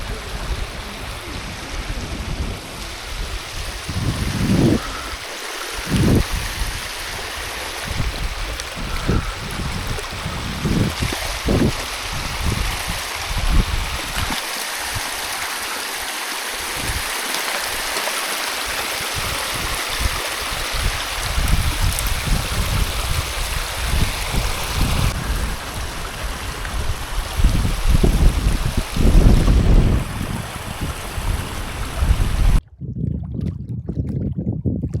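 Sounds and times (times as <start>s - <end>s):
wind buffeting microphone: 0.0s - 15.4s, 16.6s - 17.9s, 18.6s - 35.0s
flowing water: 0.0s - 35.0s.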